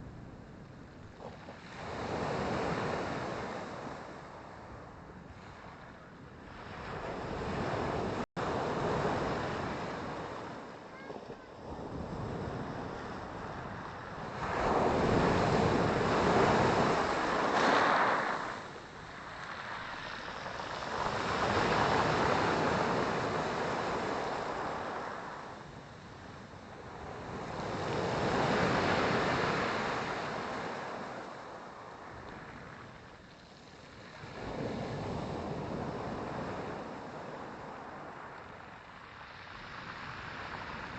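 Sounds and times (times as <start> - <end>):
sea waves breaking on shore: 1.2 - 40.9.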